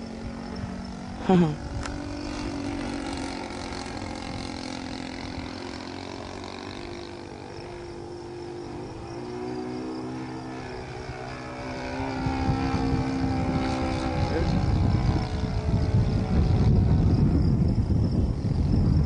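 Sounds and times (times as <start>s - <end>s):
model plane engine drone: 0.0s - 19.0s.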